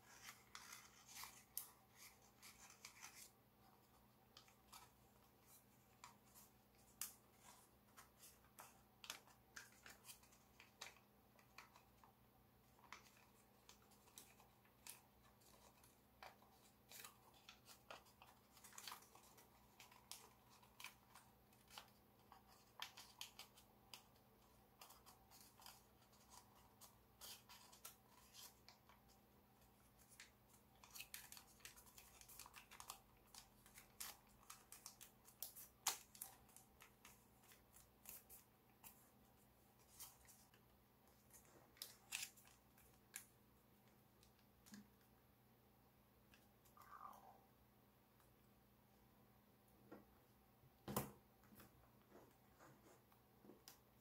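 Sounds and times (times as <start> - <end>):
paper crinkling: 0.0 - 45.0.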